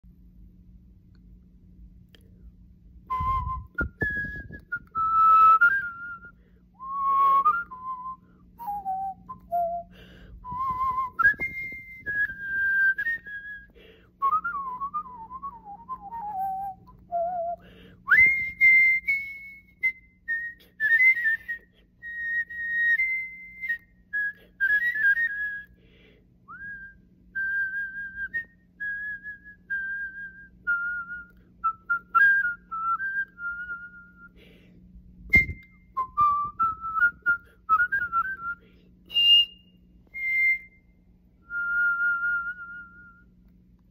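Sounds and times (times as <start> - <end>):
man whistling a melody: 3.0 - 25.8, 26.4 - 34.6, 35.2 - 43.5.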